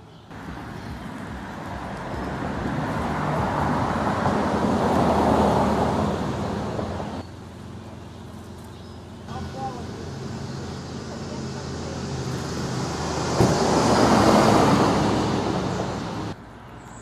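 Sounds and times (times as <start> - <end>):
road vehicle passing by: 0.0 - 17.0.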